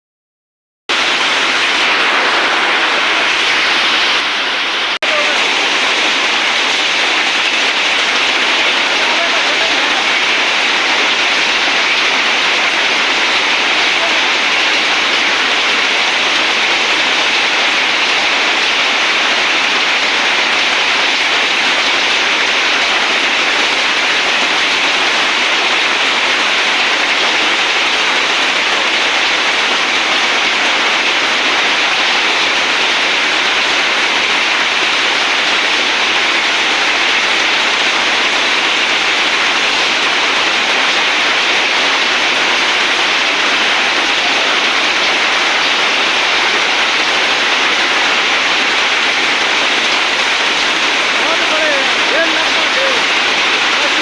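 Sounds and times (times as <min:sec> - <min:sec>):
heavy rain pouring: 0:00.9 - 0:54.0.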